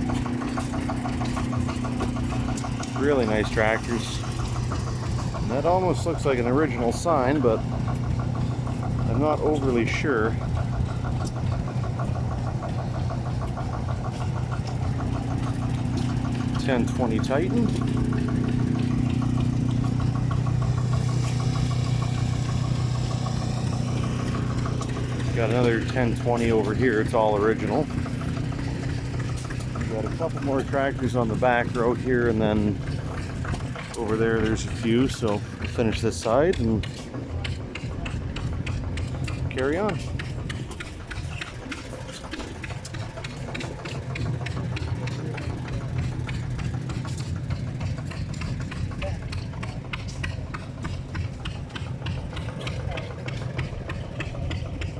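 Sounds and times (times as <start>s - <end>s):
engine idling with ticking: 0.0s - 54.9s.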